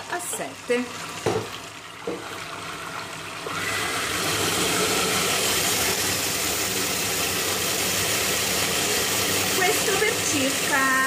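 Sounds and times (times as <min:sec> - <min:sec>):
food processor running: 0:00.0 - 0:11.0.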